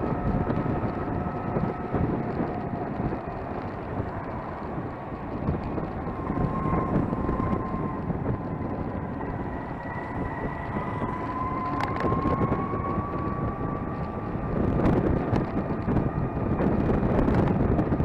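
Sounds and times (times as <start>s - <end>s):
electric motor whine: 0.0s - 18.0s
road and wind rumble: 0.0s - 18.0s.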